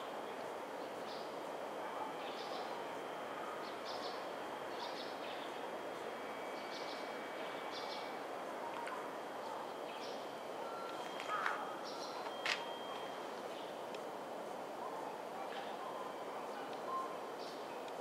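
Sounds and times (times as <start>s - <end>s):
electric train equipment hum: 0.0s - 18.0s.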